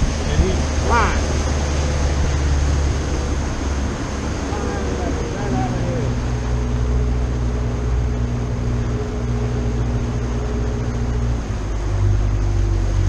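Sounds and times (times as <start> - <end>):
boat engine running: 0.0 - 13.0
water and wind hiss: 0.0 - 13.0.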